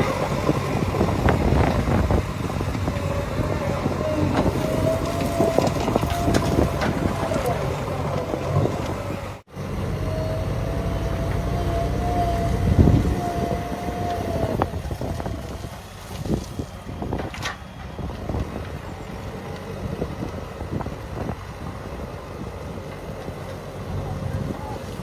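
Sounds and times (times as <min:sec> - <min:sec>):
wind buffeting microphone: 0:00.0 - 0:09.4, 0:10.2 - 0:25.0
diesel engine of heavy machinery: 0:00.0 - 0:25.0.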